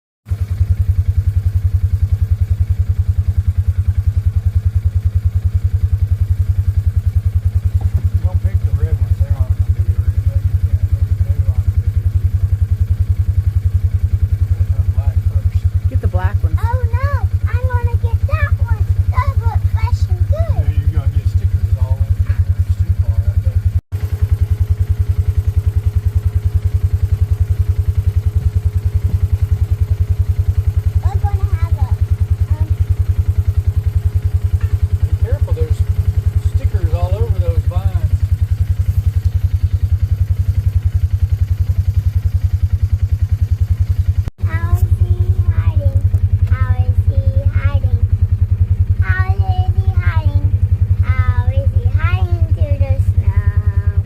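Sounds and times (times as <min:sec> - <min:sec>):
engine running: 0:00.3 - 0:54.0.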